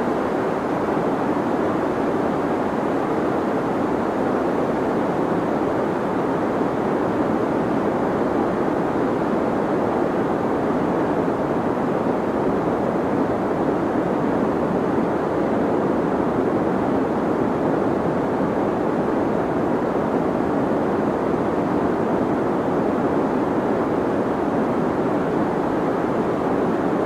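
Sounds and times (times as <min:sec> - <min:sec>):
deep white noise hiss: 0:00.0 - 0:27.0.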